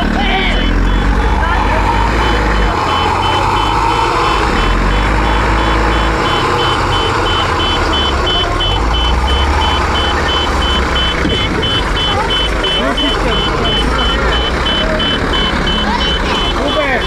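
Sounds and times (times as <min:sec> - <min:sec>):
backup alarm beeping: 0:00.0 - 0:17.0
heavy vehicle engine running: 0:00.0 - 0:17.0.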